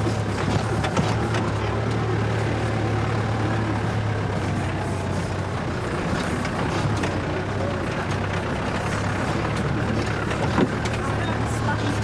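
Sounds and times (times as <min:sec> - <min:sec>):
knocks and rattles: 0:00.0 - 0:02.1, 0:04.3 - 0:12.0
vehicle engine and tyre drone: 0:00.0 - 0:12.0.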